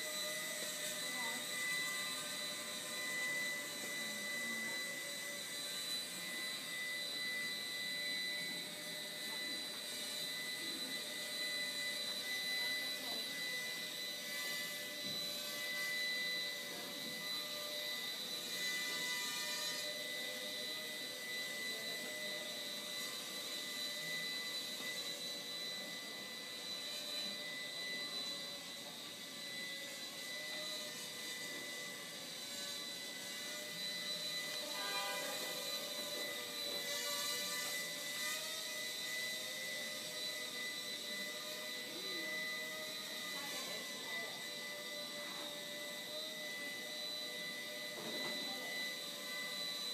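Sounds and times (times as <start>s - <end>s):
quadcopter propellers whining: 0.0s - 49.9s.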